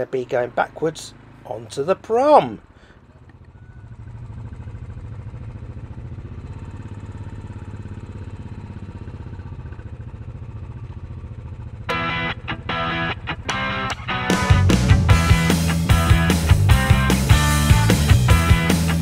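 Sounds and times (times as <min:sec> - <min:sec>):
motorcycle engine low rumble: 0:00.0 - 0:19.0.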